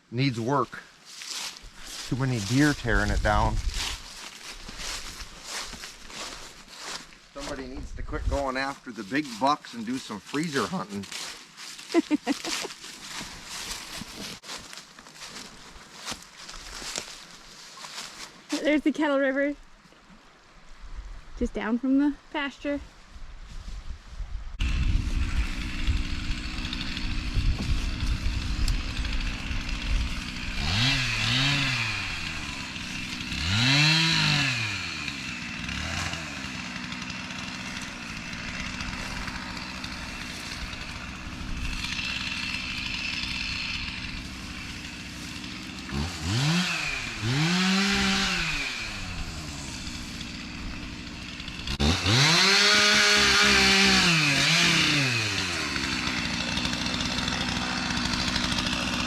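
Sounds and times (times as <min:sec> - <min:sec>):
chainsaw revving: 0:01.3 - 0:14.7, 0:24.6 - 0:59.0.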